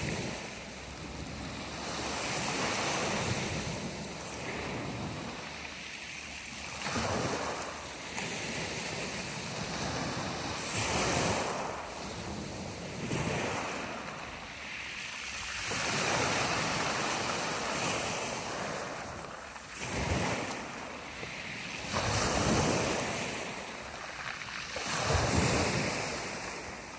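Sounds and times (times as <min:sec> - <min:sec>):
wind on microphone: 0:00.0 - 0:05.8, 0:06.5 - 0:14.6, 0:15.2 - 0:26.9
waves breaking on shore: 0:00.0 - 0:26.9.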